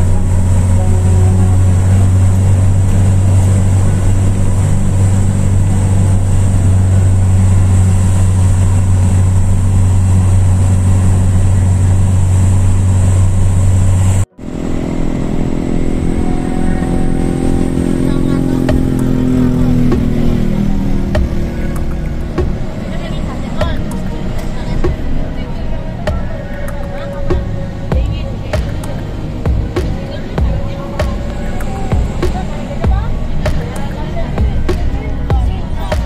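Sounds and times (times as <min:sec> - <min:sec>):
bus engine and road drone: 0:00.0 - 0:36.0.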